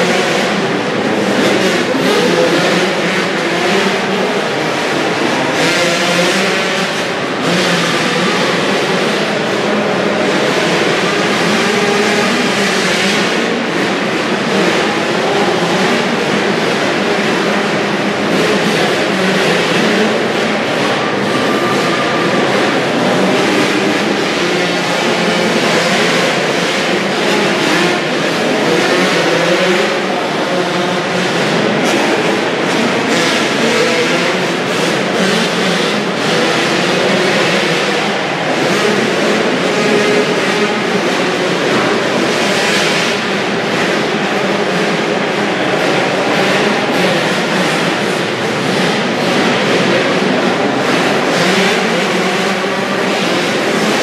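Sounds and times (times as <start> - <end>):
motocross bikes revving: 0.0 - 54.0.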